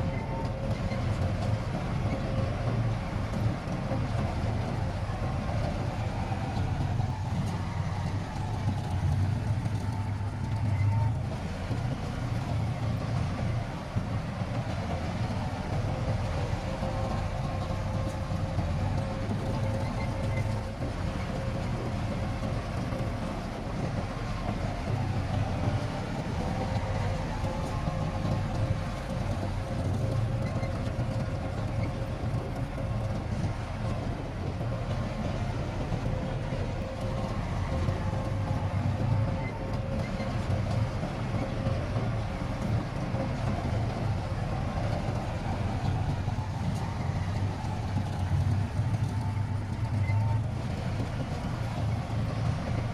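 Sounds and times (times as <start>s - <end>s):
faint steady whine: 0.0s - 52.9s
heavy diesel machinery rumble: 0.0s - 52.9s.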